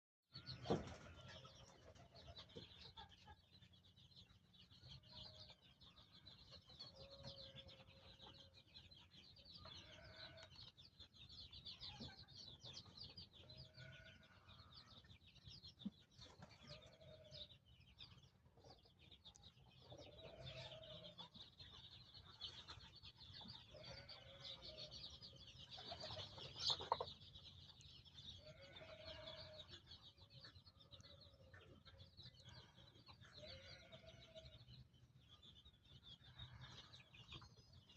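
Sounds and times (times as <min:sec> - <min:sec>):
chicks peeping: 0:00.4 - 0:37.9.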